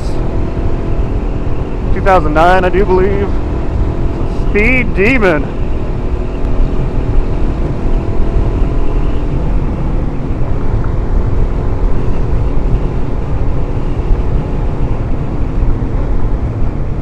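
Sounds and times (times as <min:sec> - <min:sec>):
faint motorcycle engine drone: 0:00.0 - 0:17.0
wind buffeting microphone: 0:00.0 - 0:17.0.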